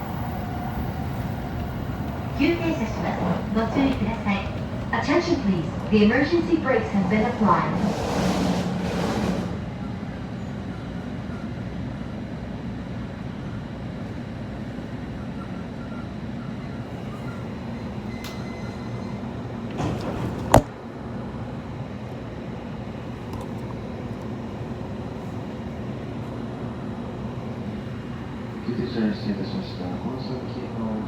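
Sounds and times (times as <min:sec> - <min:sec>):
train car rumble: 0:00.0 - 0:31.0.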